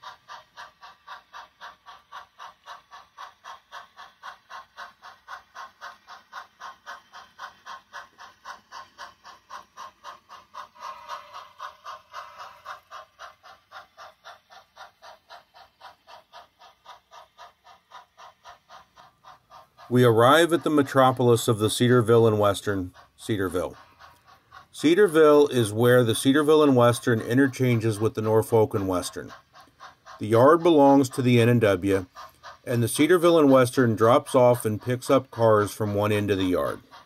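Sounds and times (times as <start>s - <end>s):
model steam locomotive chuffing: 0.0s - 37.0s.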